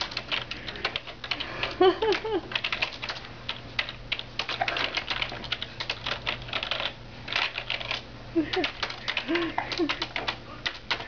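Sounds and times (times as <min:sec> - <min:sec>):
computer keyboard keys clattering: 0:00.0 - 0:11.0.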